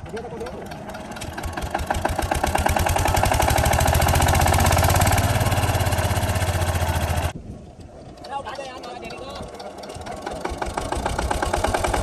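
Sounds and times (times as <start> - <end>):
diesel pump engine knocking: 0.0 - 7.3, 8.2 - 12.0.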